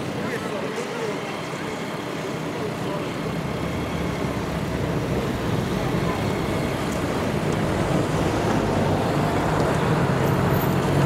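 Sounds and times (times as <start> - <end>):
electric tram rumbling on rails: 0.0 - 11.0
road traffic passing: 0.0 - 11.0.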